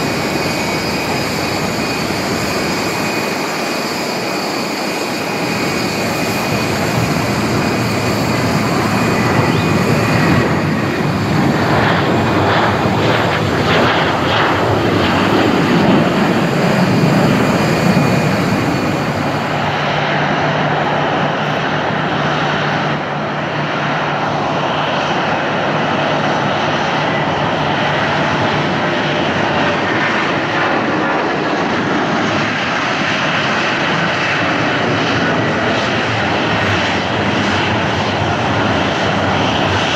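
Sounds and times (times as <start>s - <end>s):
jet engines whining and rumbling: 0.0s - 39.9s.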